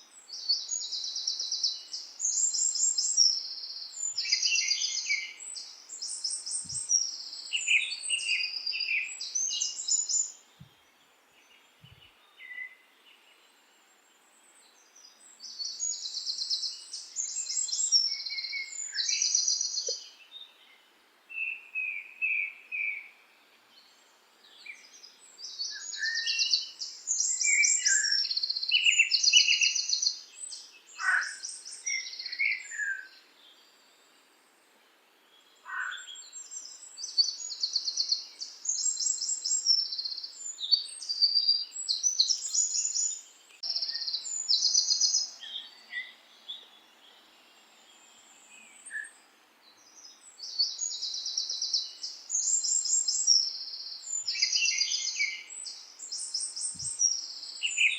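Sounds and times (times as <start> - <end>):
songbirds singing trills: 0.0 - 57.9.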